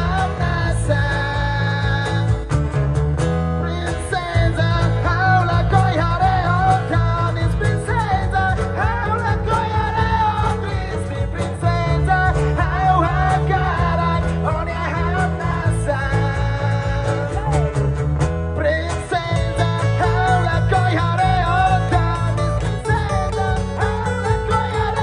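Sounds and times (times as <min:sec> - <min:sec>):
man singing: 0:00.0 - 0:02.6, 0:03.6 - 0:25.0
acoustic guitar: 0:00.0 - 0:25.0.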